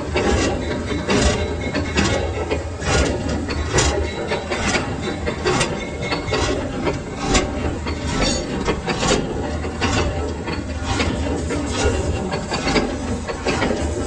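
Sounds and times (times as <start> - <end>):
lathe humming: 0.0 - 14.0
metal scraping: 2.7 - 14.0.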